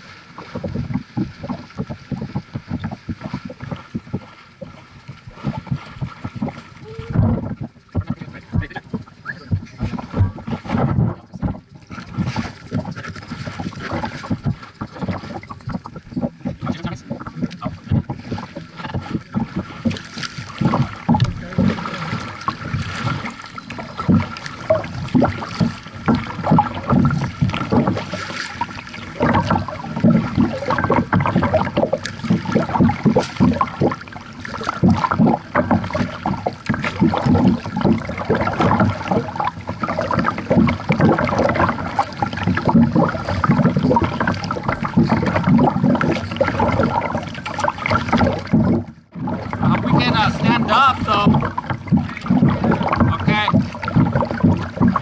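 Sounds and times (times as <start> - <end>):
water splashing against kayak: 0.0 - 55.0.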